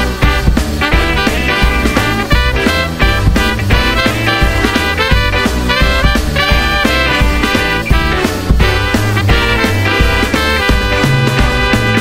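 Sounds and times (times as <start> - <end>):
swing music: 0.0 - 12.0.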